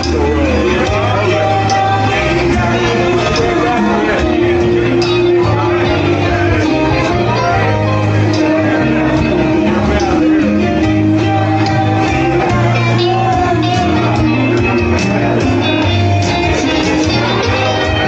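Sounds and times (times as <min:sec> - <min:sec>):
music with bass line: 0:00.0 - 0:18.0.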